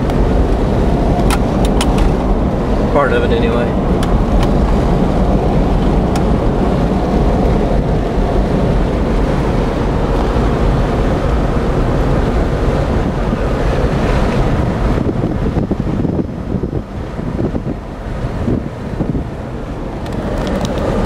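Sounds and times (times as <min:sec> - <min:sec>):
road and engine noise: 0:00.0 - 0:21.0
wind buffeting microphone: 0:00.0 - 0:21.0.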